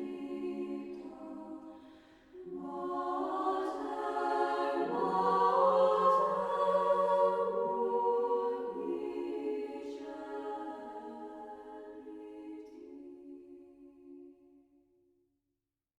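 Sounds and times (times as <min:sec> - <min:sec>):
church music with held chords: 0:00.0 - 0:14.4.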